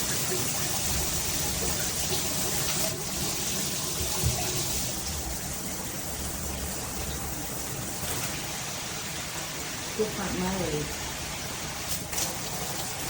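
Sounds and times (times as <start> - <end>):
shower head spraying water: 0.0 - 9.3, 10.0 - 13.0.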